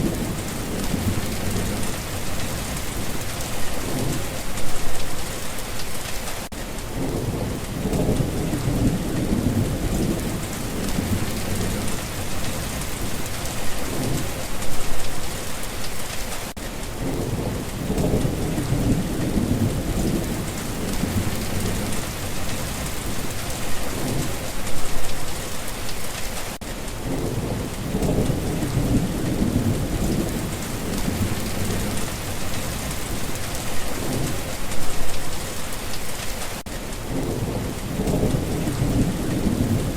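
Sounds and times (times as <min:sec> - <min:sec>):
thunder rumbling: 0:00.0 - 0:05.4, 0:06.4 - 0:15.7, 0:16.9 - 0:25.6, 0:27.0 - 0:35.6, 0:37.0 - 0:39.9
heavy rain hissing: 0:00.0 - 0:39.9.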